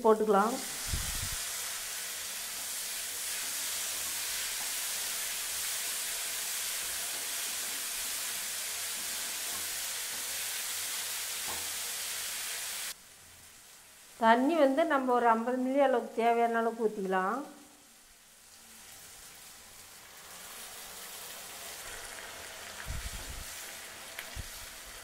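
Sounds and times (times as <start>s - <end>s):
vegetables sizzling in frying pan: 0.2s - 15.7s, 17.8s - 25.0s.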